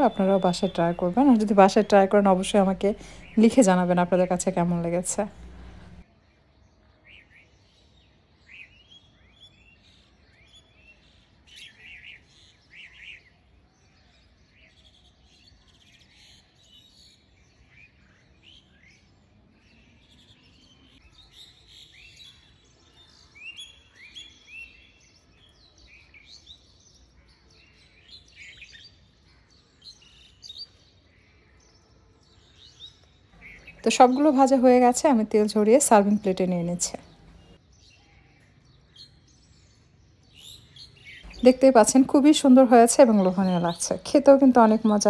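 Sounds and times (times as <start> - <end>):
small birds chirping: 0.0 - 6.0, 6.6 - 45.0.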